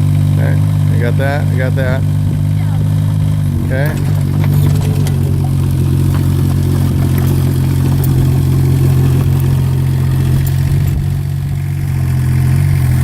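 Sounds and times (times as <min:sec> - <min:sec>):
small diesel engine running: 0:00.0 - 0:13.0.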